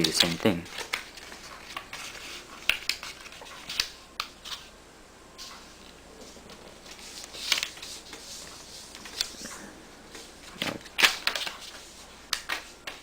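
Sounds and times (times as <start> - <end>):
paper being folded and creased: 0.0 - 4.7, 5.4 - 12.7.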